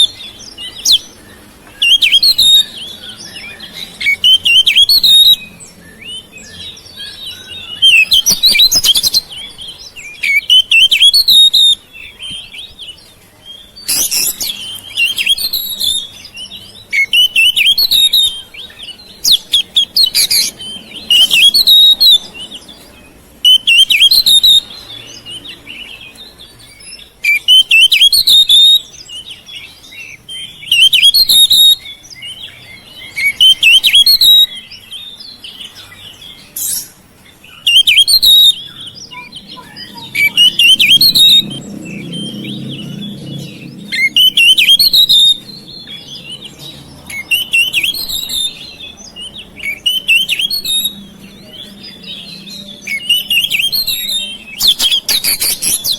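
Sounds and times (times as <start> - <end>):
bird singing chirps and whistles: 0.0 - 55.9.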